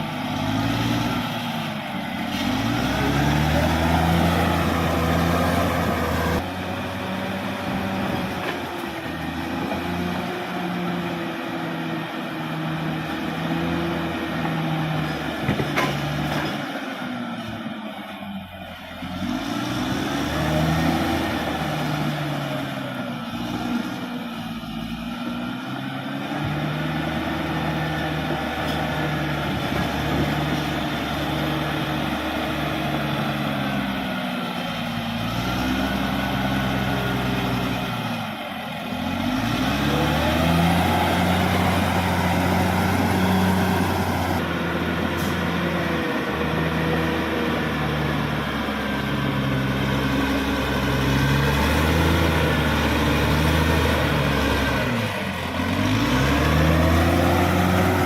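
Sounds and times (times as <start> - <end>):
bulldozer diesel engine working: 0.0 - 58.0.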